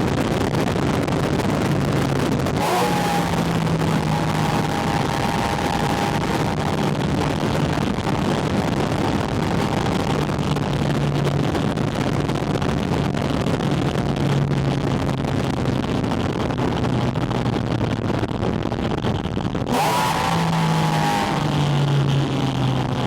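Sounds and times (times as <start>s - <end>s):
car engine cruising: 0.0s - 23.0s
wind noise: 0.0s - 23.0s.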